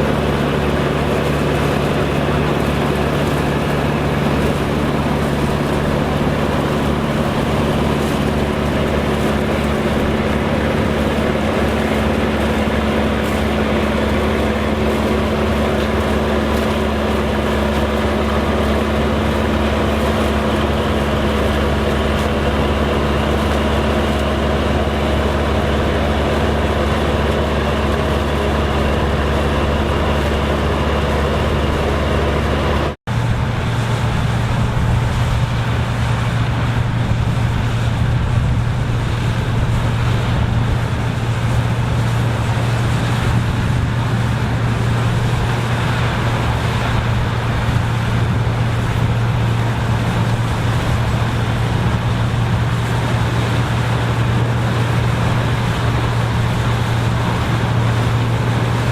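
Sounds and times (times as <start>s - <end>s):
engine deep drone: 0.0s - 58.9s.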